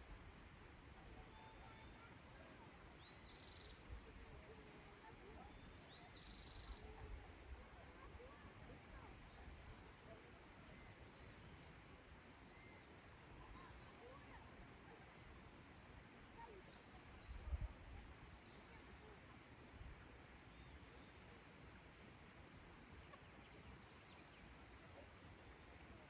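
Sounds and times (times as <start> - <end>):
high insect hiss: 0.0 - 26.0.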